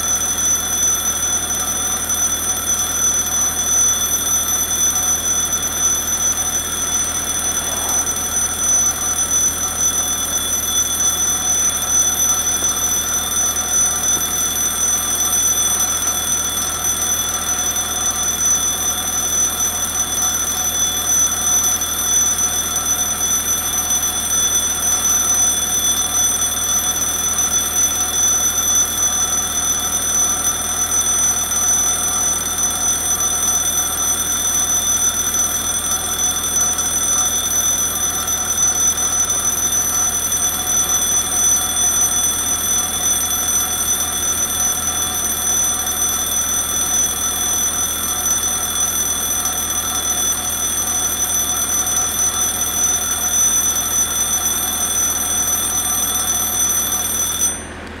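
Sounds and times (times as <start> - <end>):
level crossing warning bell: 0.0 - 58.0.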